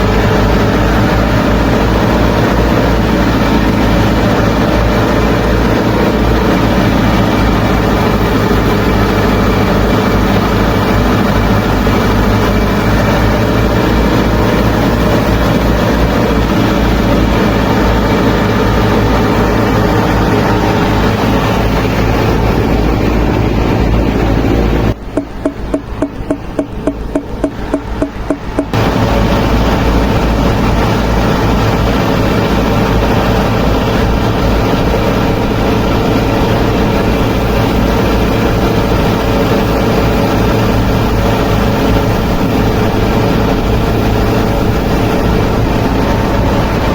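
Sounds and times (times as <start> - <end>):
tractor engine droning: 0.0 - 46.9.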